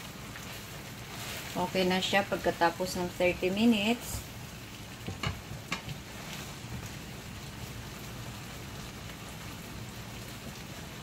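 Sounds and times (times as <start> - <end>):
sauce bubbling and sizzling: 0.0 - 11.0.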